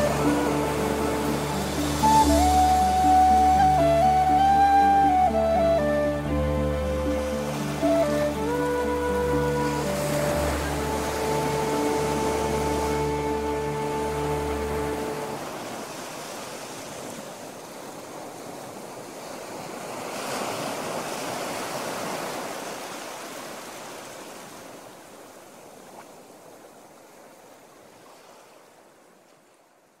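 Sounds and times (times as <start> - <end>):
surf rushing: 0.0 - 25.0.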